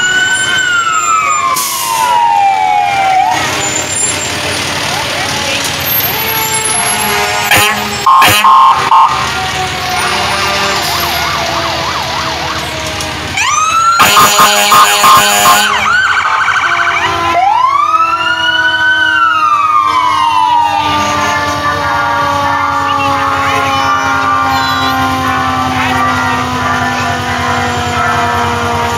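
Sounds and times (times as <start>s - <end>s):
fire truck sirens: 0.0s - 28.9s.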